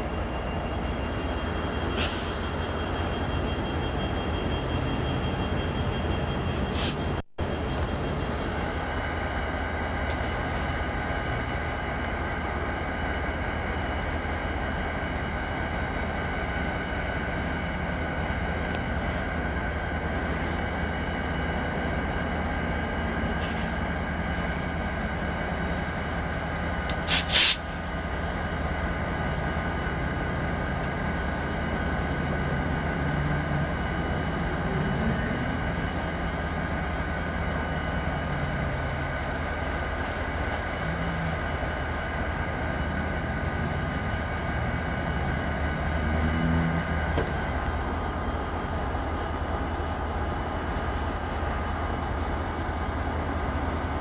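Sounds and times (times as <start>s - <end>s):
high whine: 0.0s - 54.0s
locomotive engine drone: 0.0s - 54.0s.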